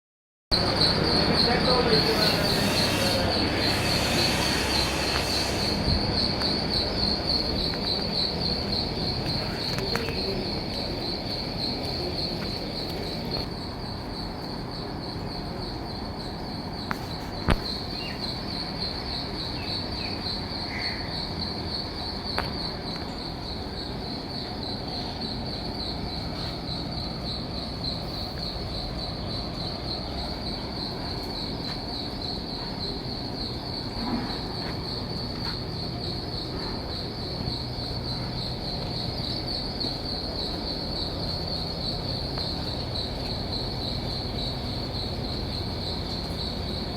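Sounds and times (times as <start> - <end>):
insects trilling: 0.5 - 46.9.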